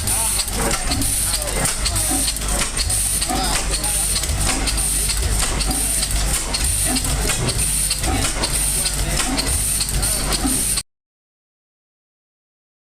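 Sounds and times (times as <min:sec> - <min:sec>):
engine running with low hum: 0:00.0 - 0:10.8.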